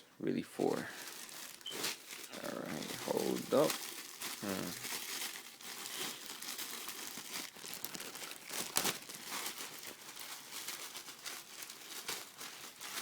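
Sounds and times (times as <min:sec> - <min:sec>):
packaging crinkling and rustling: 0:00.6 - 0:13.0.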